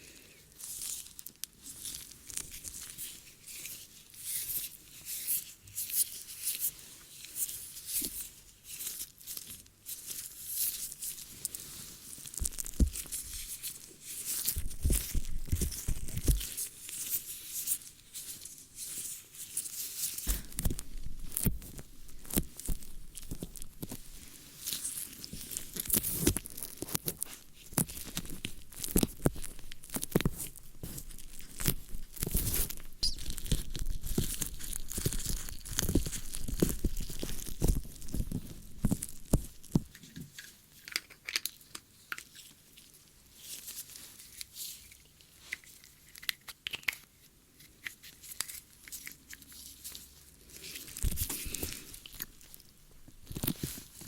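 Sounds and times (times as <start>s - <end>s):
scratching and crackling in ear: 0.5s - 54.0s.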